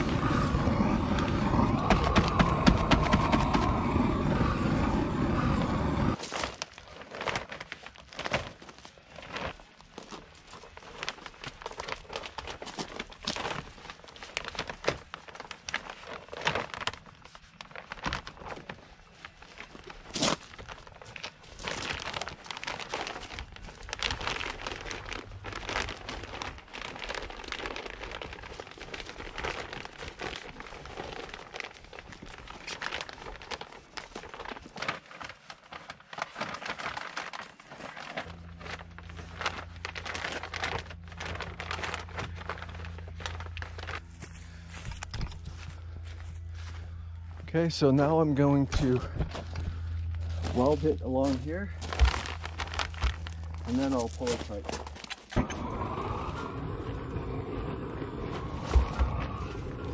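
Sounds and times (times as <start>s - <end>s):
plastic sheeting crinkling: 0.0s - 59.9s.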